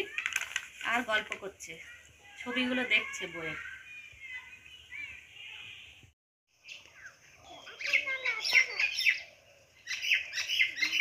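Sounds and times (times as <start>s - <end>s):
small birds chirping: 1.8s - 11.0s.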